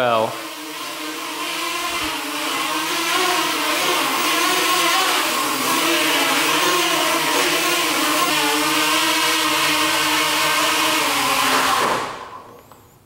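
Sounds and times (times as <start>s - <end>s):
quadcopter motors buzzing: 0.0s - 12.9s.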